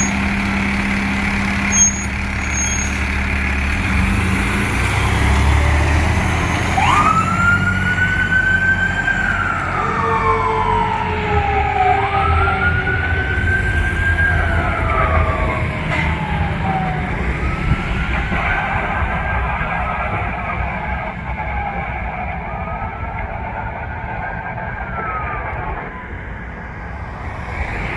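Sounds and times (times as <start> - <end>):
fire truck siren wailing: 0.0 - 27.9
truck engine rumble: 0.0 - 27.9.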